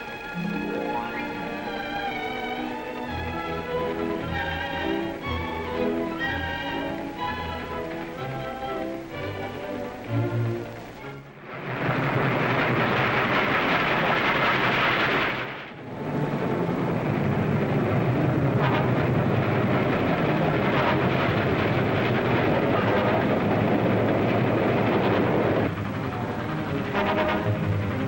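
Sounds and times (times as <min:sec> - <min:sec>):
steam train rumbling: 0:00.0 - 0:28.0.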